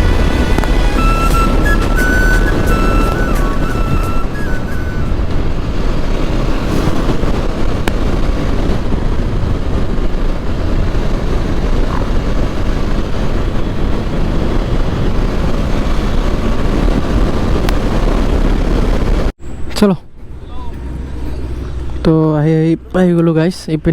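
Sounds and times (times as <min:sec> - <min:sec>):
motorcycle engine running: 0:00.0 - 0:19.3
wind rushing over microphone: 0:00.0 - 0:23.9.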